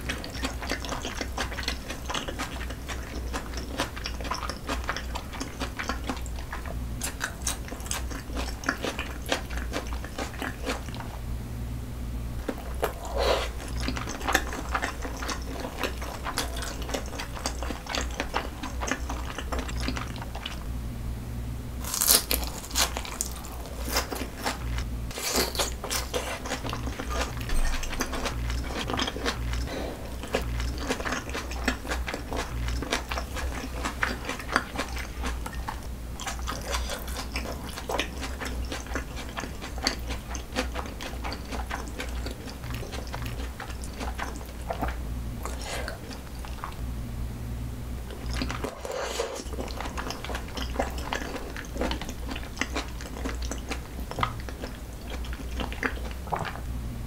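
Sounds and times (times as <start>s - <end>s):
person chewing crunchy food: 0.0s - 11.2s, 12.4s - 20.7s, 21.8s - 46.8s, 48.0s - 56.7s
faint low hum: 0.0s - 57.0s.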